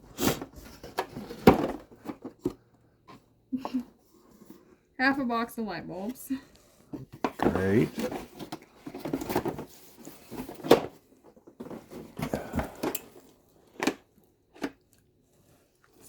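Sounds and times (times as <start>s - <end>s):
hardware rustling and clattering: 0.0s - 4.9s, 6.0s - 16.0s.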